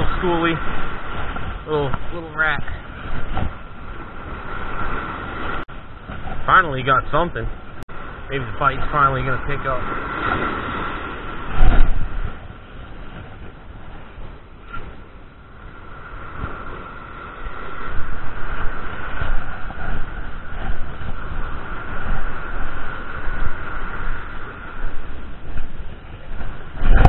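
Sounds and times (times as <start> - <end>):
small surf washing: 0.0 - 27.0
wind buffeting microphone: 0.0 - 27.0.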